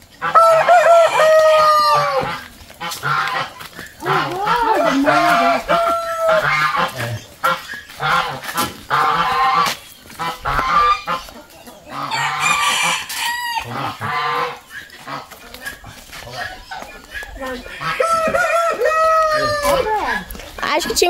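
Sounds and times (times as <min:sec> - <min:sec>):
chickens clucking and calling: 0:00.0 - 0:21.0.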